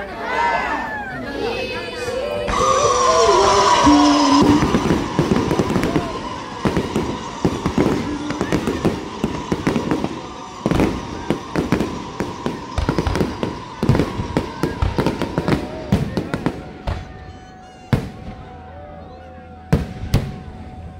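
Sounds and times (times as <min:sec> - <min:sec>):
fireworks bangs and crackling: 0:02.5 - 0:18.6, 0:19.7 - 0:20.9.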